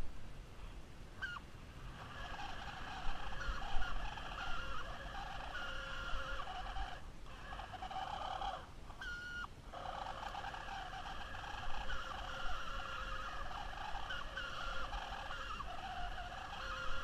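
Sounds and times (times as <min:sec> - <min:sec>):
toy car motor whirring: 0:02.2 - 0:08.7, 0:09.8 - 0:17.0.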